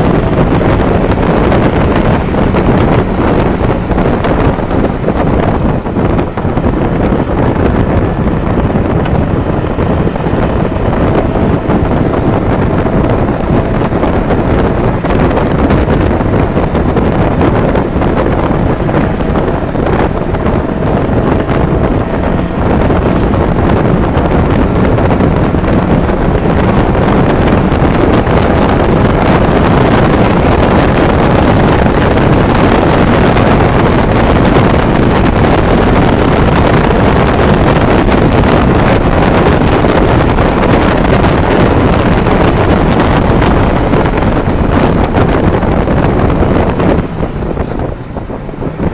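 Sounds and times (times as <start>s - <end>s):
road noise: 0.0s - 48.9s
wind buffeting microphone: 0.0s - 48.9s.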